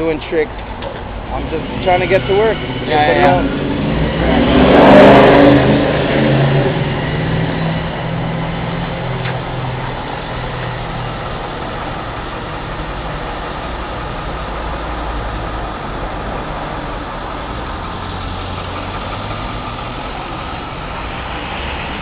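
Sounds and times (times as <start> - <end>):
traffic rumble: 0.0 - 22.0
vehicle engine humming: 0.0 - 22.0.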